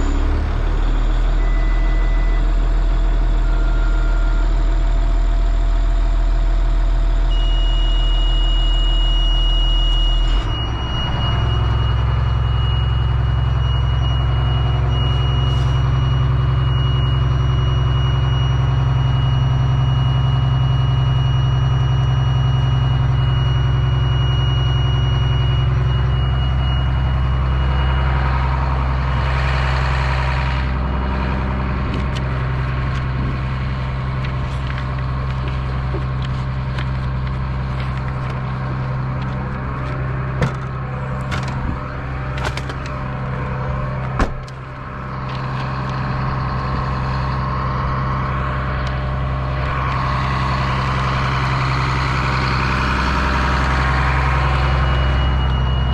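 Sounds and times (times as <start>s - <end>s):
diesel bus engine idling: 0.0s - 55.9s.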